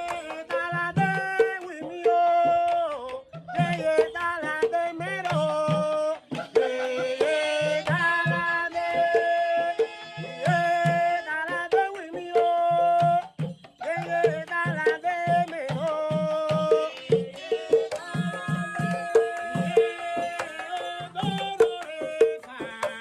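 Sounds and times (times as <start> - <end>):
hand drum rhythm: 0.0 - 23.0.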